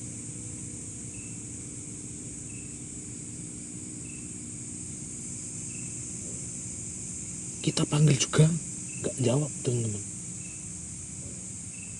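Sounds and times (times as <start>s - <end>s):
insects chorus: 0.0s - 11.9s.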